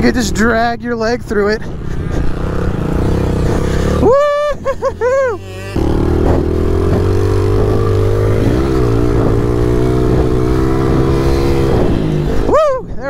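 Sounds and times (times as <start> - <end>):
motorbike engine revving: 1.6 - 12.8.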